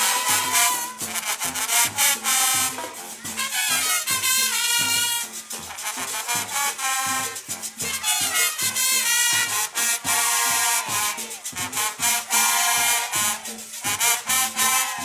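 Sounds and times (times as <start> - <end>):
marching brass band playing: 0.0 - 15.0.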